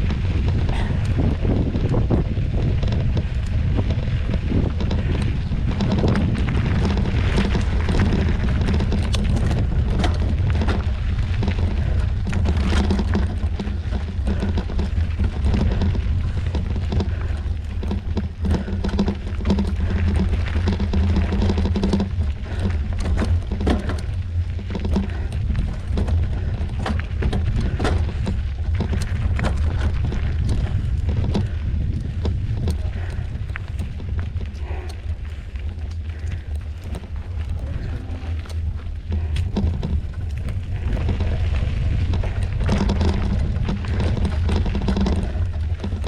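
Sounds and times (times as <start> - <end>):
bike knocking and rattling: 0.0 - 46.0
wind rumbling on microphone: 0.0 - 46.0.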